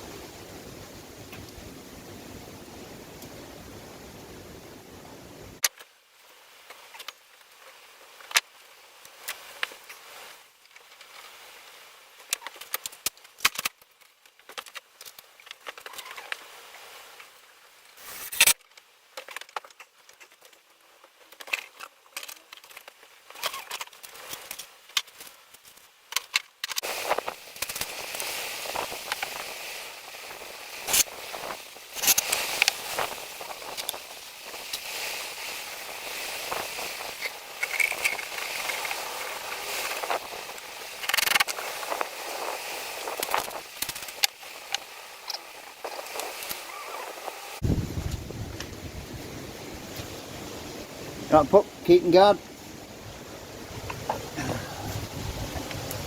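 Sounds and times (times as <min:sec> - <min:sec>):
steady hiss: 0:00.0 - 0:19.5, 0:26.7 - 0:56.0.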